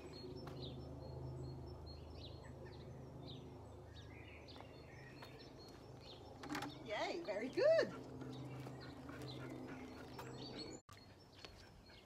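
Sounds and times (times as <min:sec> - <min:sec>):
low background hum: 0:00.0 - 0:11.9
songbirds chirping: 0:00.0 - 0:12.0.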